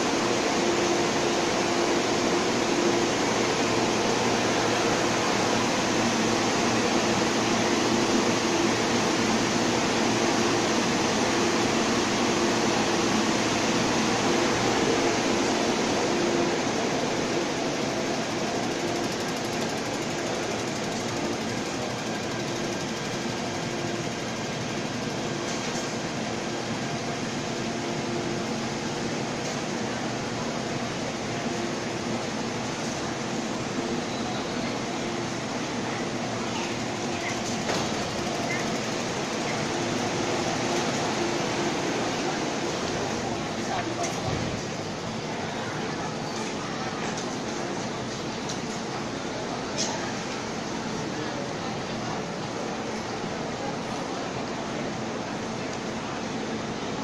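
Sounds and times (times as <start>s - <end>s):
station ventilation noise: 0.0s - 57.0s
train air-conditioning running: 0.0s - 57.0s
train humming at platform: 0.0s - 57.0s.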